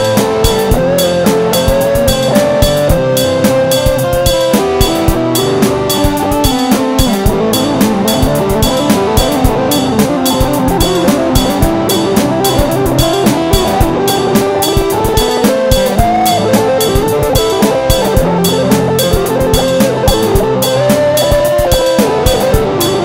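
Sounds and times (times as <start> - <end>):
steady drum beat: 0.0 - 23.0
sustained instrument parts: 0.0 - 23.0.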